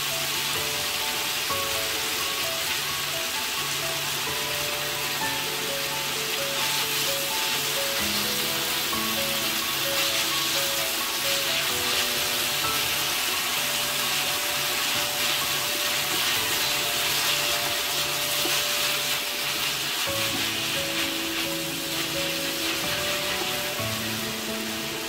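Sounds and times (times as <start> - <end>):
background music: 0.0 - 25.0
food sizzling in hot oil: 0.0 - 25.0.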